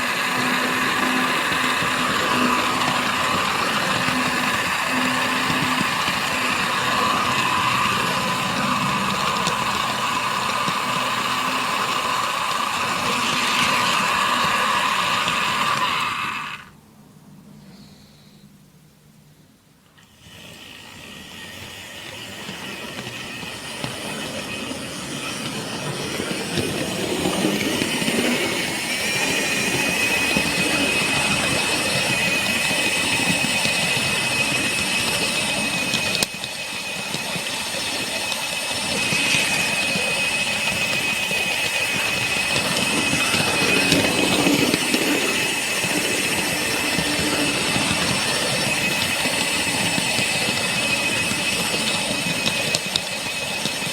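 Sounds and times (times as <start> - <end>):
electric motor whine: 0.0 - 16.8, 20.0 - 53.9
wheels rattling on rail: 0.0 - 16.8, 20.0 - 53.9.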